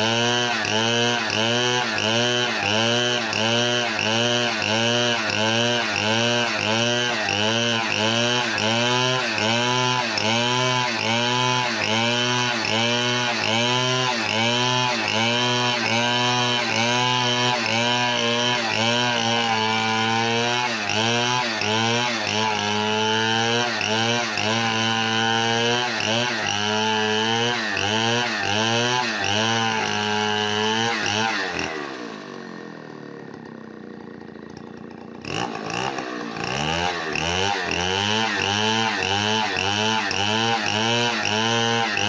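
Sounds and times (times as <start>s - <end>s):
chainsaw engine running: 0.0s - 42.0s.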